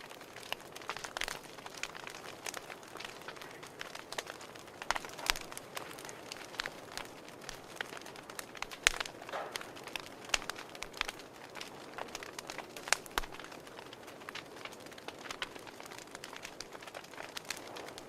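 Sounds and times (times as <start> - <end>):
campfire crackling and popping: 0.0 - 18.0
hiss of burning wood: 0.0 - 18.0.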